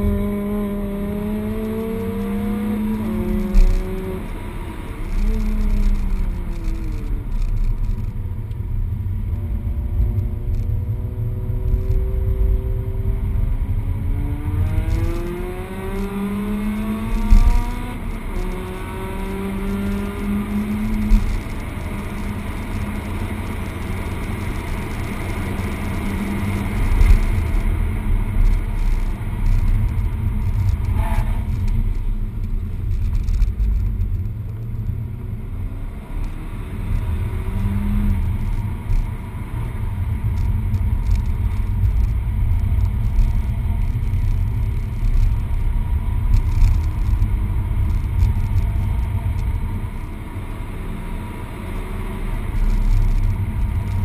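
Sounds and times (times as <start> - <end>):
car engine rumble from cabin: 0.0 - 54.0.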